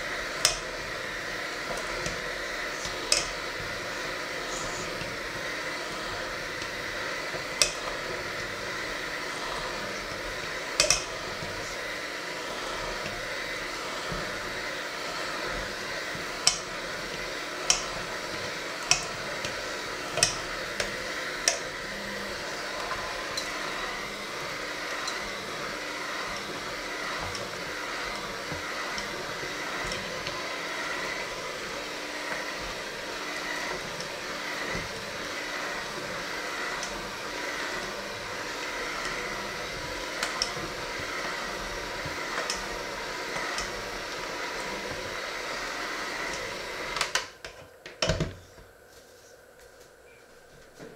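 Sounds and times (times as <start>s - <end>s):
electric hand mixer running: 0.0s - 48.8s.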